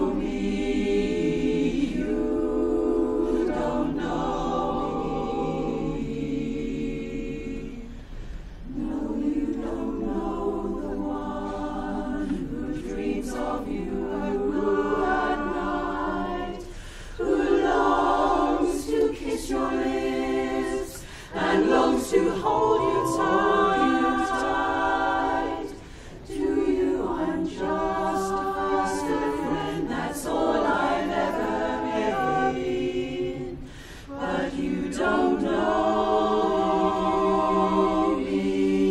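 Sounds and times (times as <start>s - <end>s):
women's chorus singing a cappella: 0.0s - 38.9s.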